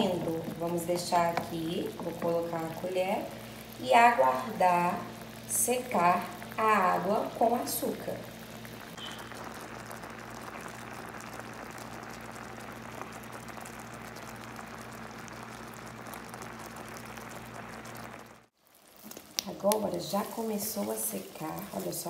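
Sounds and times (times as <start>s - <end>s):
syrup bubbling in a frying pan: 0.0s - 22.0s.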